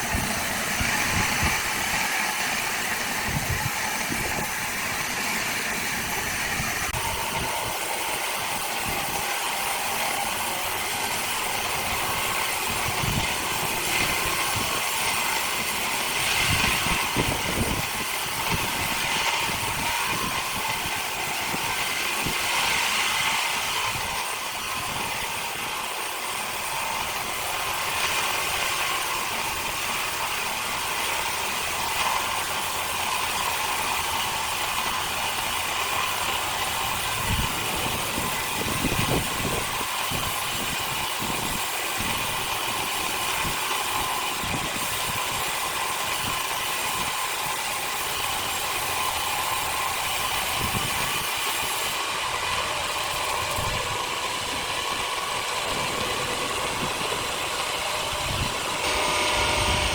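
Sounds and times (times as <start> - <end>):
machinery running: 0.0 - 59.9.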